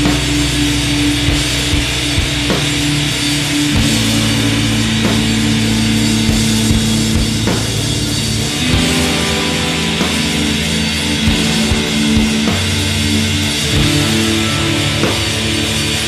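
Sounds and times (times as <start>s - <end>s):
rock music with drum kit: 0.0s - 16.0s.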